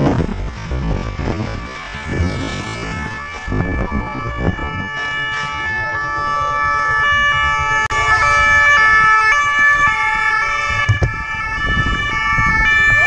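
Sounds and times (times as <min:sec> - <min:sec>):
low engine and wind rumble: 0:00.0 - 0:13.0
police motorcycle sirens: 0:00.0 - 0:13.0.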